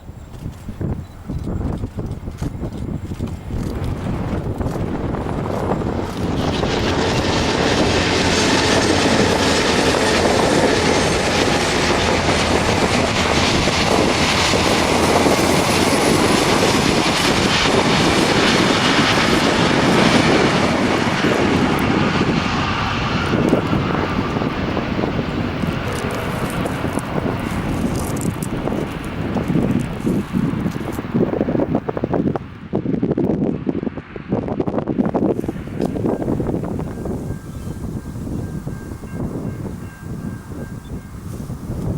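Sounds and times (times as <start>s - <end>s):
diesel train passing: 2.9s - 32.8s, 35.2s - 41.9s.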